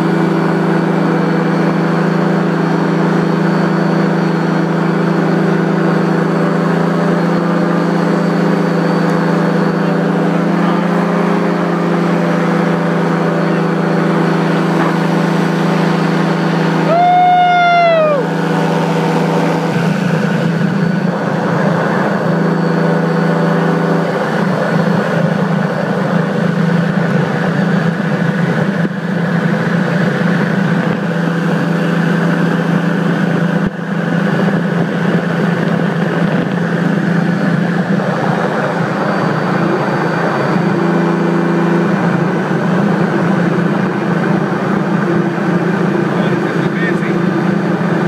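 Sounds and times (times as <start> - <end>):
paramotor engine droning: 0.0 - 48.0.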